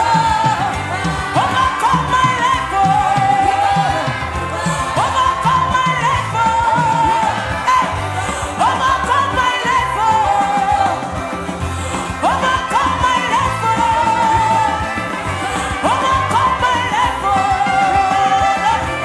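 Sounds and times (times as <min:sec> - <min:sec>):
person singing long notes: 0:00.0 - 0:19.0
worship band playing: 0:00.0 - 0:19.0.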